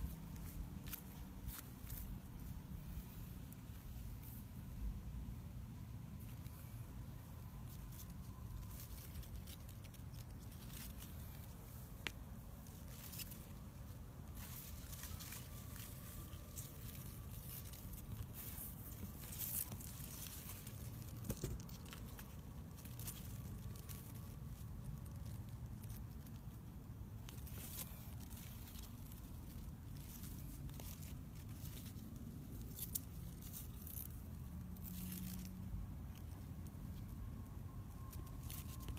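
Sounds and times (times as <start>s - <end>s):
leaves rustling against microphone: 0.0s - 38.9s
low rumble of handling noise: 0.0s - 38.9s.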